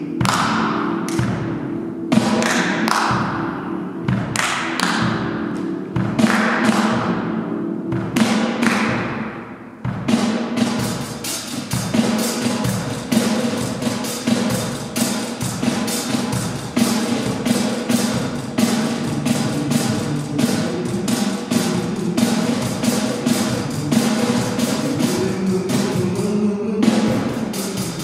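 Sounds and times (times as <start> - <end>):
sharp drum strikes: 0.2 - 1.5, 2.1 - 3.4, 6.0 - 7.2, 7.9 - 28.0.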